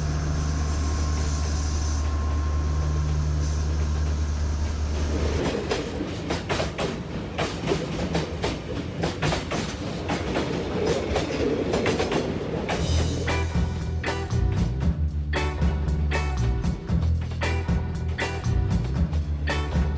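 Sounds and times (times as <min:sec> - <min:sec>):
low hum of passing train: 0:00.0 - 0:19.9
train wheels clattering on rails: 0:00.0 - 0:19.9.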